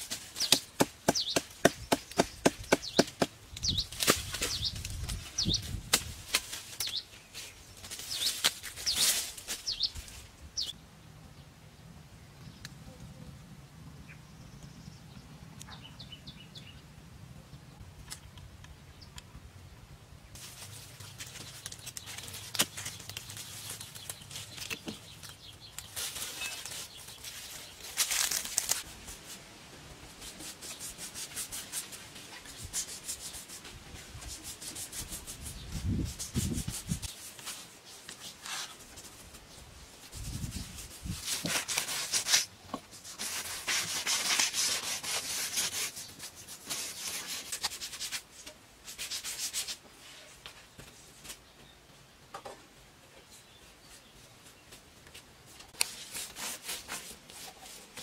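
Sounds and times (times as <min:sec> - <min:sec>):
branches and twigs rustling: 0:00.0 - 0:10.8, 0:20.3 - 0:58.0.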